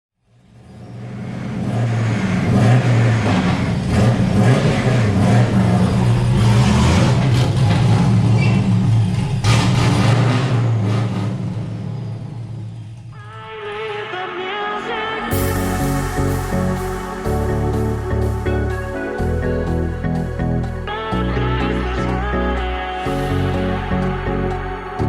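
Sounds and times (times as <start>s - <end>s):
supercharged car engine running: 0.3s - 13.1s, 15.3s - 25.0s.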